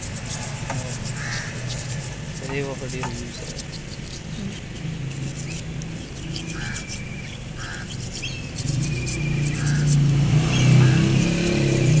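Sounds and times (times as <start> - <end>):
brush scrubbing in fluid: 0.0 - 12.0
birds chirping: 0.2 - 12.0.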